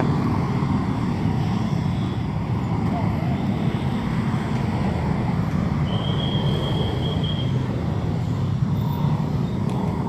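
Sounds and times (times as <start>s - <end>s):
passing cars rumbling: 0.0s - 10.0s.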